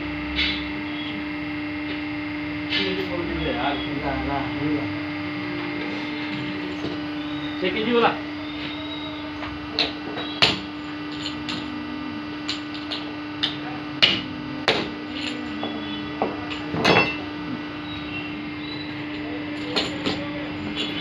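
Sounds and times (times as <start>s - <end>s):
machine motor hum: 0.0s - 21.0s.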